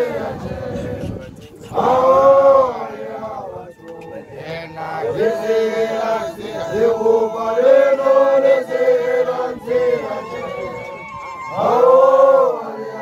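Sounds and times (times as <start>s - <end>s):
group chanting in unison: 0.0s - 10.9s, 11.5s - 13.0s.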